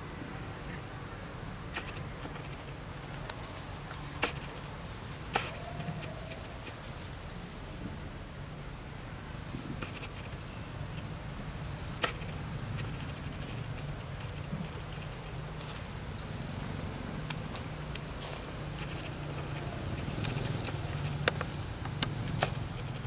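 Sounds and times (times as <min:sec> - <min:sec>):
faint high insect drone: 0:00.0 - 0:23.0.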